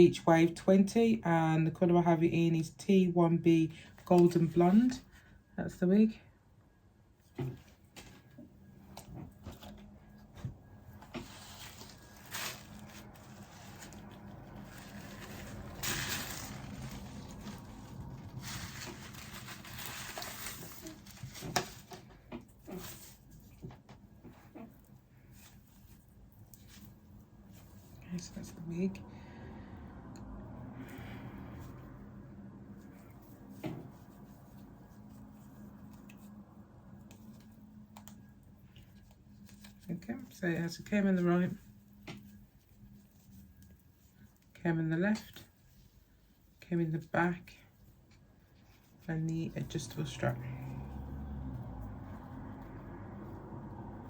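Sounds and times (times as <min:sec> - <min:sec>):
low steady hum: 0:00.0 - 0:54.0
wig hair rustling: 0:03.8 - 0:05.3, 0:07.2 - 0:29.0, 0:30.8 - 0:54.0.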